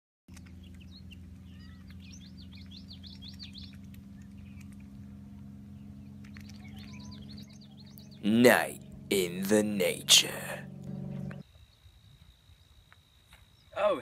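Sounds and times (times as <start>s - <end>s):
steady low hum: 0.3s - 12.9s
small birds chirping: 0.3s - 14.0s.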